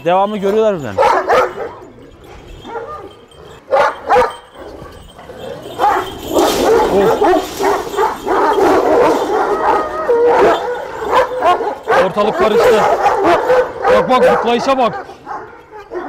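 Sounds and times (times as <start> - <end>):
dogs barking: 0.1 - 16.0.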